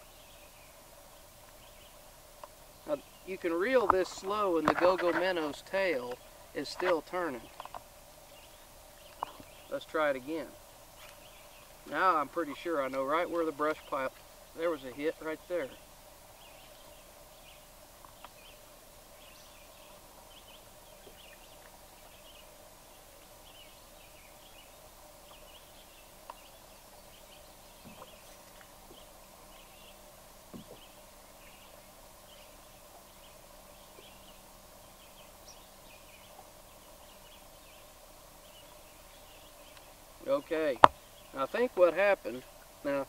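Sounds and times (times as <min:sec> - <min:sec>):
steady low hum: 0:00.0 - 0:43.0
faint bird chirps: 0:05.4 - 0:41.7.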